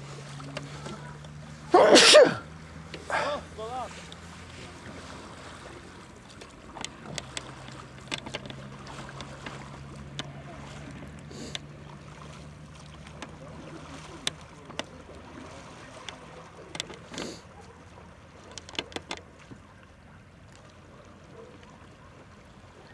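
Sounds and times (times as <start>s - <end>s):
splashes: 0.0s - 22.9s
water sloshing around hull: 0.0s - 22.9s.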